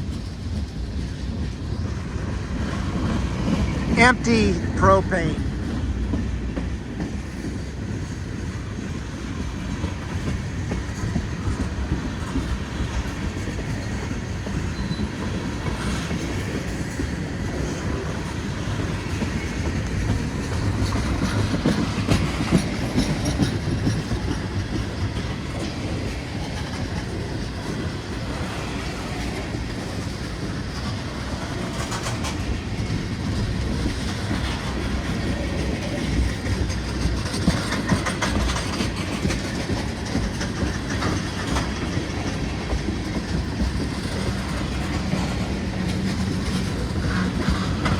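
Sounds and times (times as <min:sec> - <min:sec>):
freight train wheels clattering: 0:06.0 - 0:47.9.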